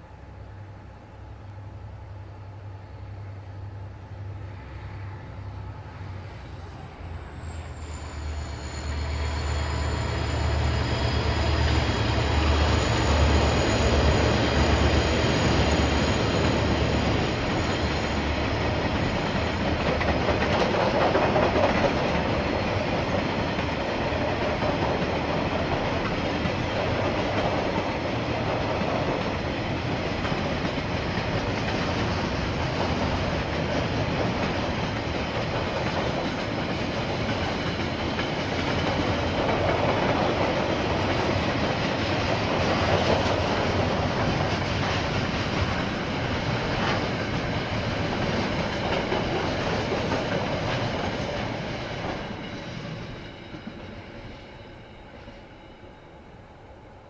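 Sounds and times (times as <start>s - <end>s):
freight train wagons rumbling: 0.0s - 56.8s
diesel locomotive engine drone: 0.0s - 57.0s.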